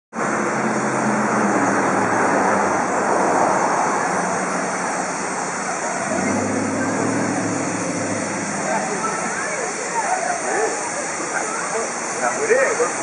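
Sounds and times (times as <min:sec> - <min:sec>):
low traffic hum: 0:00.2 - 0:13.0.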